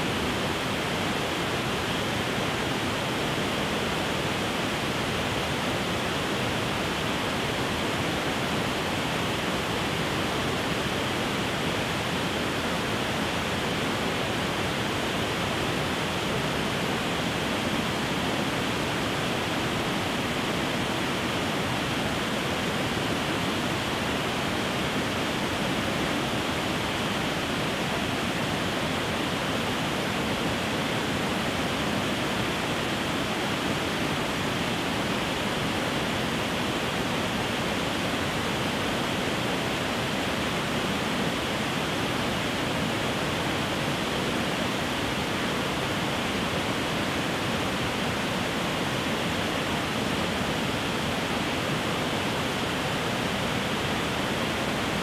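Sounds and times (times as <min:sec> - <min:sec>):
water rushing over cascades: 0:00.0 - 0:55.0.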